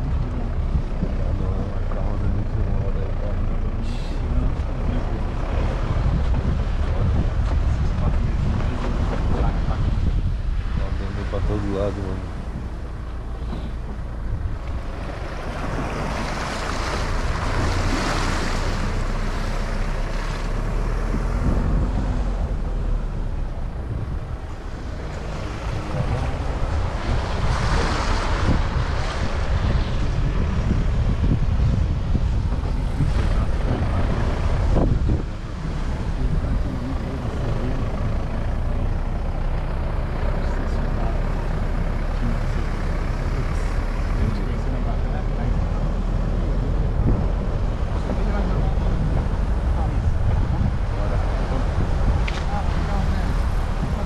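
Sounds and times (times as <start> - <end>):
outdoor noise: 0.0 - 54.0
wind buffeting microphone: 0.0 - 54.0.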